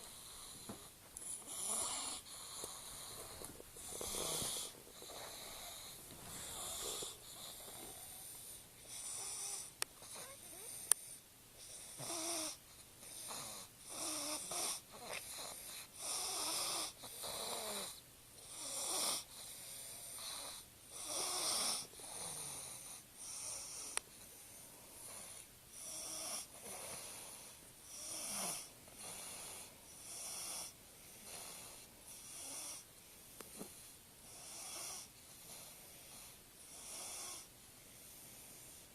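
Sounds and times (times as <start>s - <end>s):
boy snoring: 0.0s - 24.0s, 25.0s - 32.8s, 34.3s - 37.5s.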